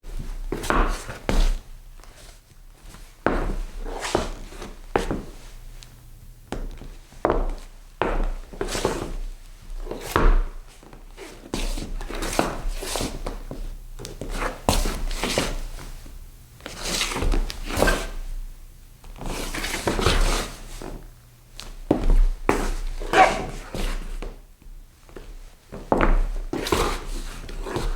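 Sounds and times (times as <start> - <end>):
shoe soles scraping on wooden floor: 0.5 - 5.6, 6.5 - 16.0, 16.6 - 18.3, 19.0 - 21.0, 21.9 - 24.4, 25.1 - 27.9.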